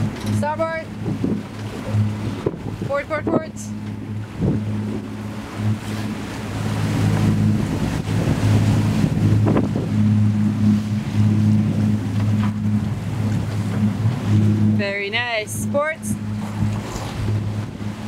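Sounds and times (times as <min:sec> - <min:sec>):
rushing splashing water: 0:00.0 - 0:18.0
steady low drone: 0:00.0 - 0:18.0
wind: 0:00.0 - 0:18.0
wind buffeting microphone: 0:00.0 - 0:18.0.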